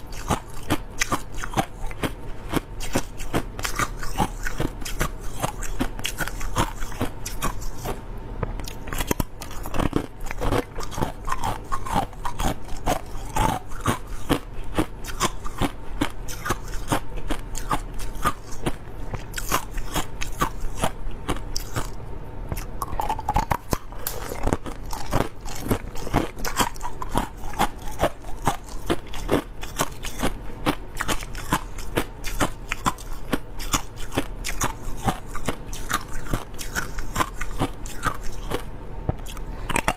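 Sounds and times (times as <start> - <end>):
crushed ice being chewed: 0.0 - 8.0, 8.6 - 39.9.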